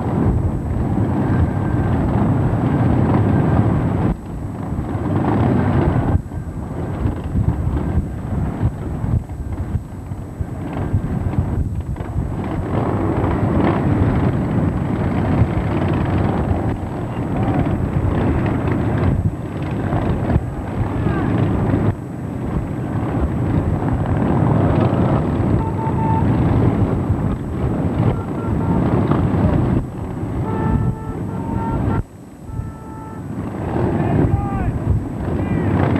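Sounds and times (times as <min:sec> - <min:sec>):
vehicle rumble: 0:00.0 - 0:35.9
wind buffeting microphone: 0:00.0 - 0:35.9.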